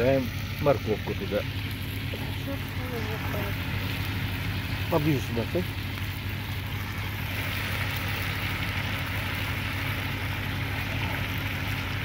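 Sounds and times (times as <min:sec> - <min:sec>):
meat sizzling in hot oil: 0:00.0 - 0:12.0
steady low hum: 0:00.0 - 0:12.0.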